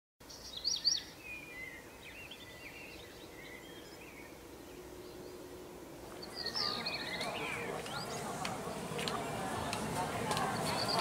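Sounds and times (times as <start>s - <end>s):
faint steady hum: 1.1s - 11.0s.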